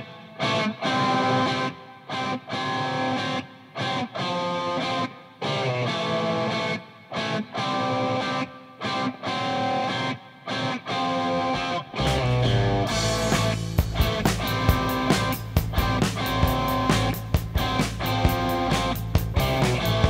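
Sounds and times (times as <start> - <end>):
electric guitar chords: 0.0 - 20.0.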